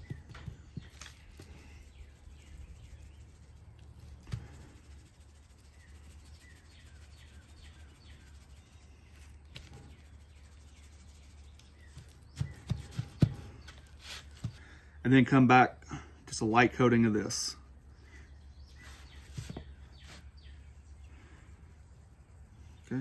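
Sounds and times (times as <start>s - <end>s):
low steady hum: 0.0s - 23.0s
small birds chirping: 0.0s - 23.0s.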